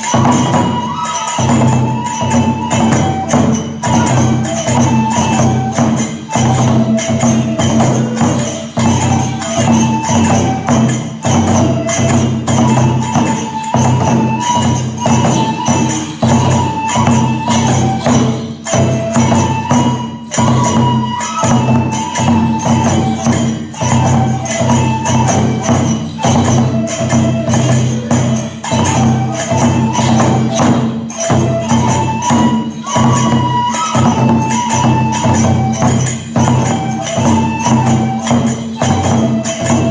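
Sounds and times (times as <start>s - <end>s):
bamboo flute long notes: 0.0s - 39.9s
drum beats: 0.0s - 39.9s
small hand cymbals clashing: 0.0s - 39.9s.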